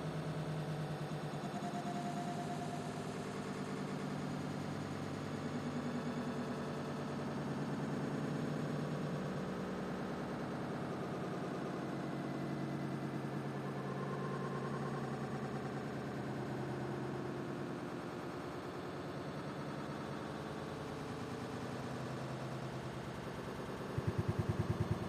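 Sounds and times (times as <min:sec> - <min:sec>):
low mechanical drone with flutter: 0:00.0 - 0:25.0.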